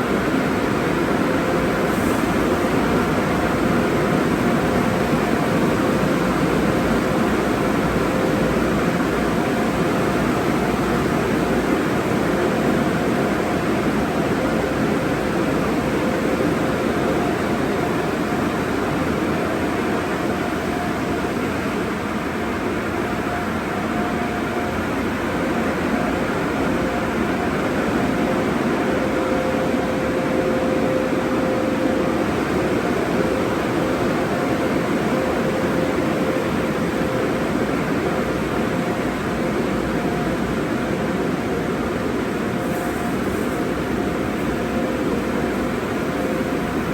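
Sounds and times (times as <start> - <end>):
spraying water and machinery: 0.0 - 23.7, 24.3 - 46.9.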